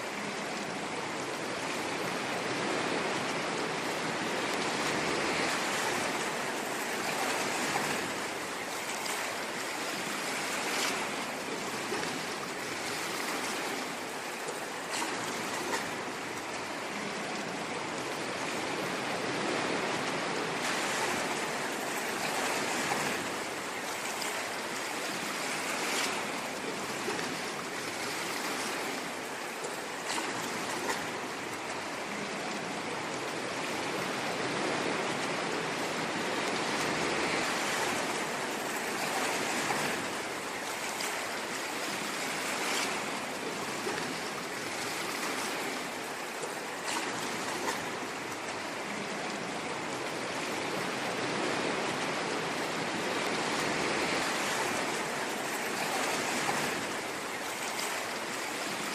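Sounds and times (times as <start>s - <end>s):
ocean waves washing on shore: 0.0s - 58.9s.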